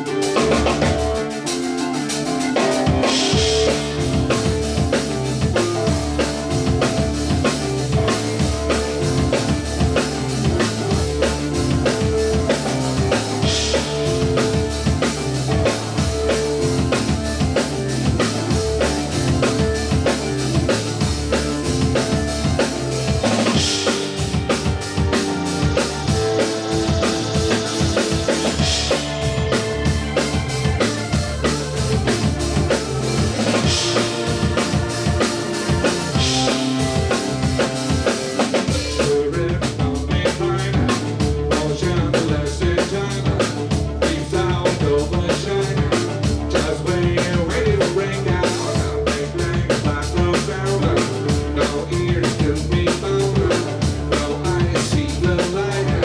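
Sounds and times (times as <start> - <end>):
bass drum and snare: 0.0 - 56.0
live rock band playing: 0.0 - 56.0.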